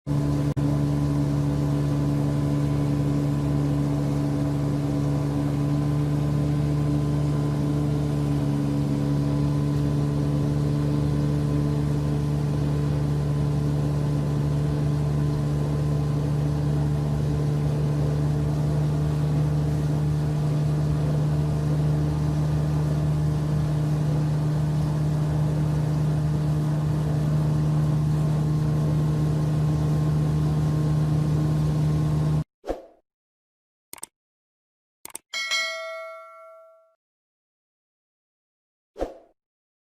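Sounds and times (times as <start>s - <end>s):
motorboat engine running: 0.1s - 32.4s.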